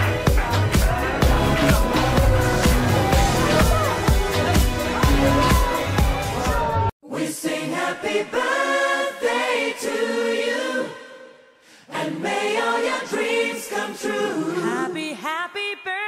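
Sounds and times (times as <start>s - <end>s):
group of voices singing: 0.0s - 15.3s.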